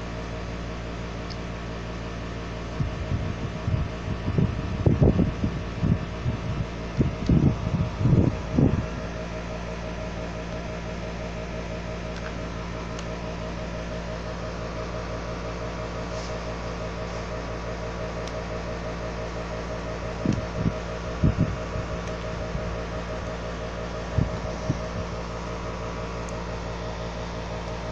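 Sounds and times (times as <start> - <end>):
steady mechanical hum: 0.0 - 27.9.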